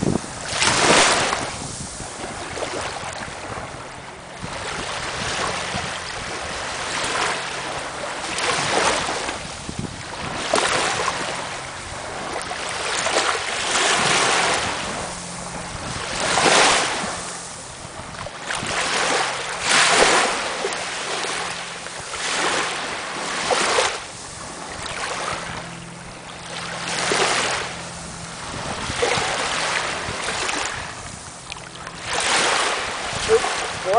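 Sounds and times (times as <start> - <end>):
small waves lapping on shore: 0.0 - 33.9.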